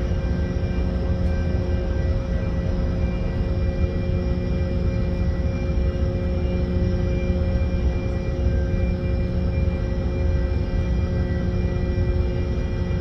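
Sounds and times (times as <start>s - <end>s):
constant droning hum: 0.0s - 13.0s.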